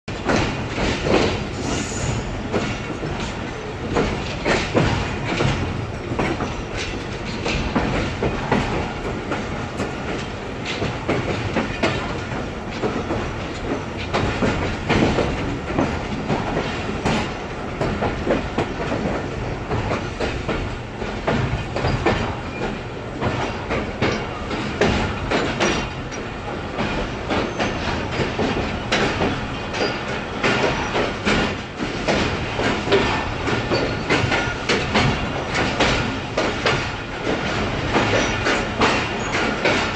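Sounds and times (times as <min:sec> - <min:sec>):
clacks over rail joints: 0:00.1 - 0:39.9
train wheels rumbling on rail: 0:00.1 - 0:39.9.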